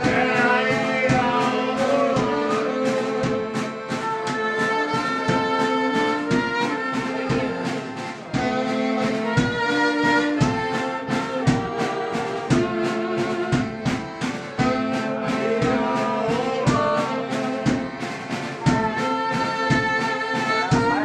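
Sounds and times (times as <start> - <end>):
saxophone and accordion tune: 0.0 - 21.0.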